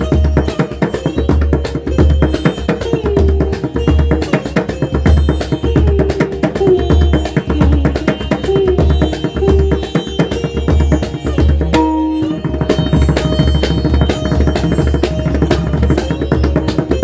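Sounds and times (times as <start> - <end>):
pakhwaj drum strokes: 0.0 - 17.0.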